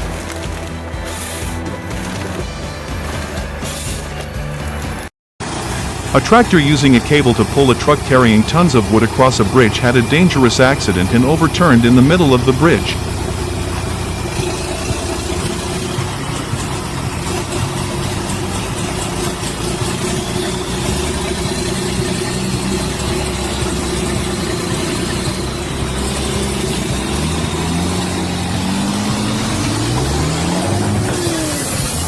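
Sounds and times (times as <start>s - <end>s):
heavy vehicle engine revving: 0.0s - 32.0s.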